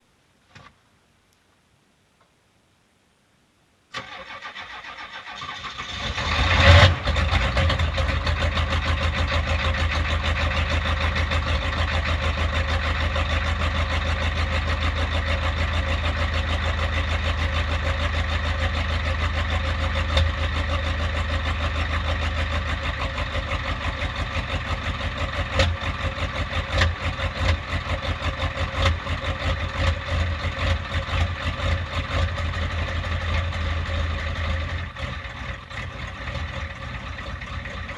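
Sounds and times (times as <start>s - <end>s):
diesel engine starting and idling: 3.9s - 37.9s.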